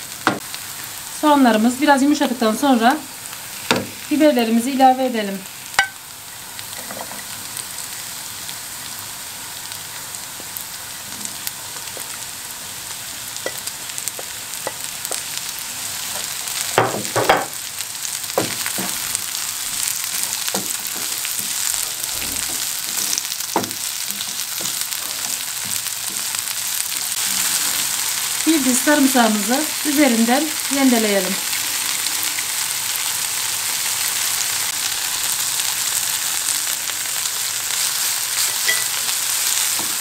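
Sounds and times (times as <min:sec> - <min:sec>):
vegetables sizzling in oil: 0:00.0 - 0:40.0.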